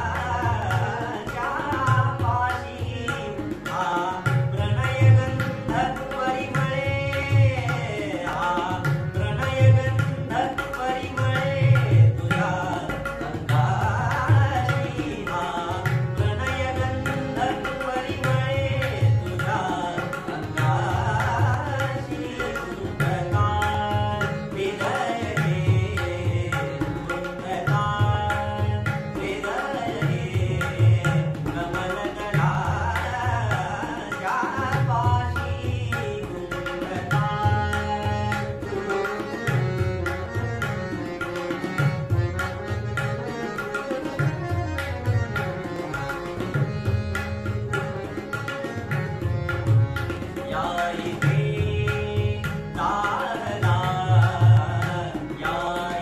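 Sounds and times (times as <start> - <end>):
harmonium: 0.0 - 56.0
man singing classical song: 0.0 - 56.0.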